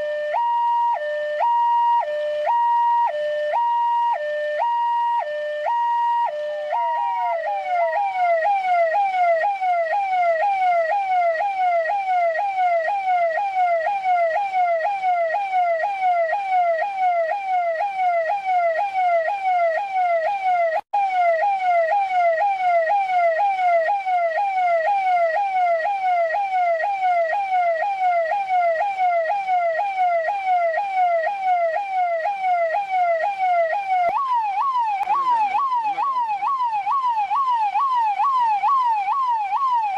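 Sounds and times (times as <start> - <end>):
police car siren: 0.0 - 39.9.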